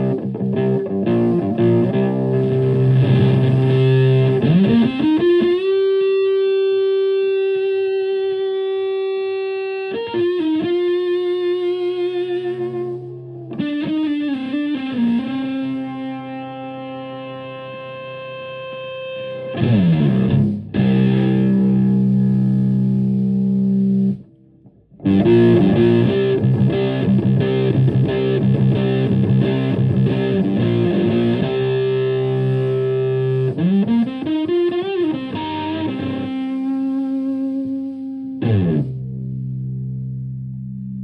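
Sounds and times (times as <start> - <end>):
fuzz electric guitar: 0.0 - 41.0.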